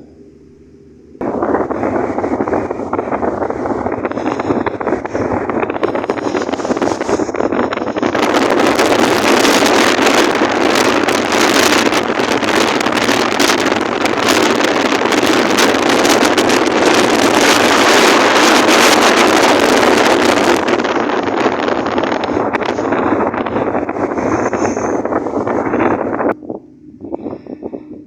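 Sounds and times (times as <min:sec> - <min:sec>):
wind buffeting microphone: 0:01.2 - 0:28.0.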